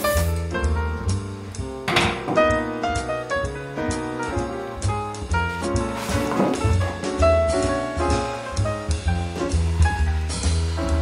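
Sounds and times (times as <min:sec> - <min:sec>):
jazz music: 0:00.0 - 0:11.0.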